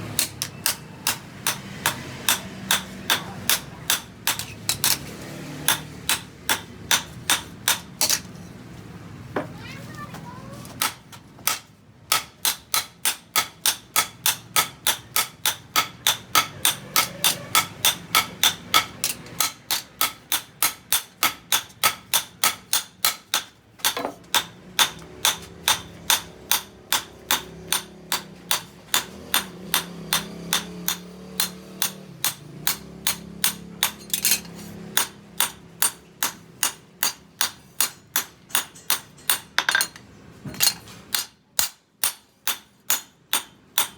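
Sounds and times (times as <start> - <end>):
hammer striking steel on anvil: 0.1 - 5.0, 5.6 - 8.3, 10.8 - 40.0, 40.6 - 43.9.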